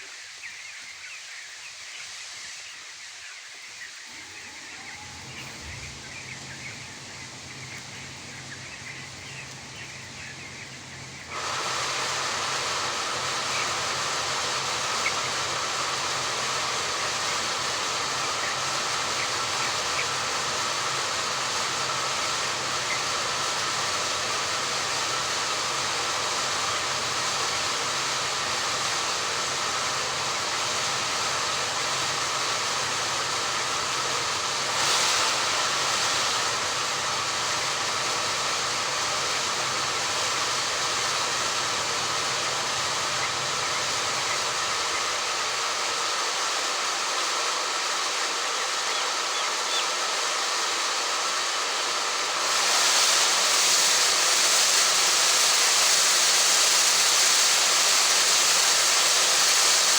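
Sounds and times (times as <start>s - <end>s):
machine hum with hiss: 0.0s - 59.9s.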